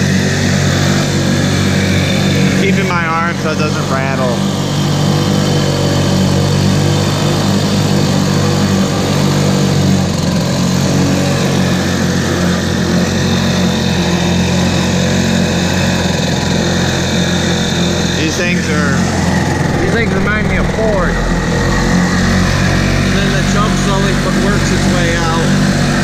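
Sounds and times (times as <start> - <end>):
outboard motor running: 0.0 - 26.0
propeller churning water: 0.0 - 26.0.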